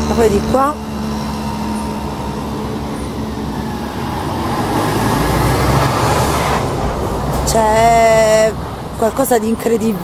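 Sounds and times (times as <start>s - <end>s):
vehicle passing close by: 0.0s - 9.0s.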